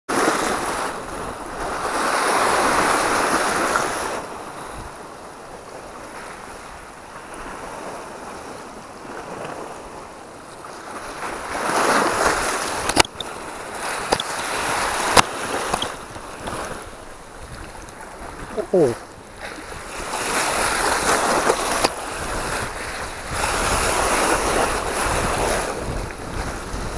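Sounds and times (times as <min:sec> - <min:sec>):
sea waves washing against rocks: 0:00.1 - 0:26.9.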